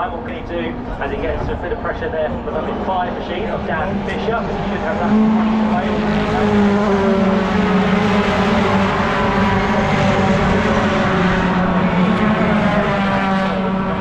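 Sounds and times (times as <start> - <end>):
truck engine running at high revs: 0.0 - 14.0.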